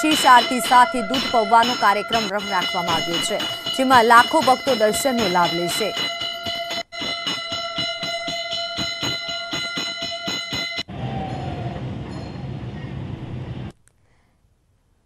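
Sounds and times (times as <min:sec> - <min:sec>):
bells rung rapidly: 0:00.0 - 0:12.6.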